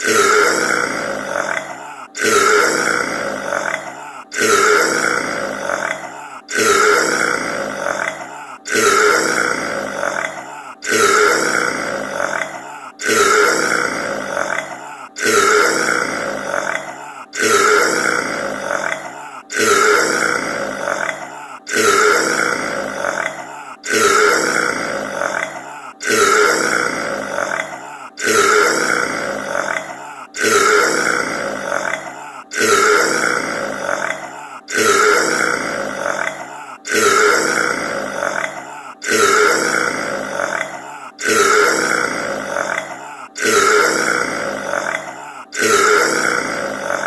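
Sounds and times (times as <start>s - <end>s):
man burping: 0.0s - 47.0s.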